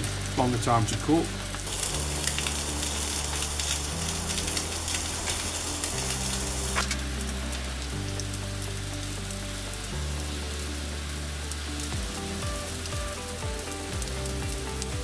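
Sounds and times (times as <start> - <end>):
meatballs sizzling in oil: 0.0 - 15.0.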